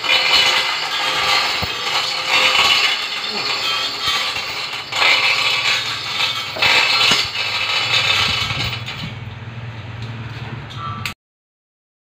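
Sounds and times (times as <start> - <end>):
metal rattling and scraping: 0.0 - 10.8.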